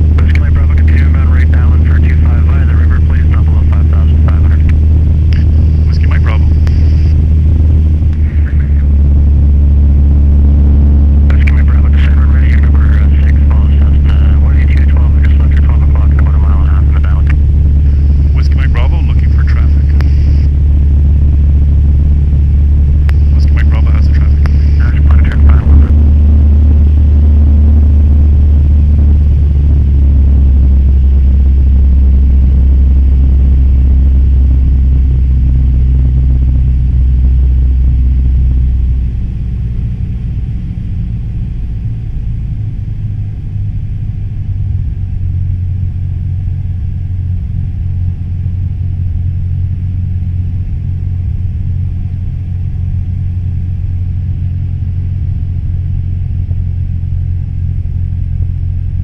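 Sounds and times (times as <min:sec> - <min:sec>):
airplane engine and propeller droning: 0:00.0 - 0:59.0.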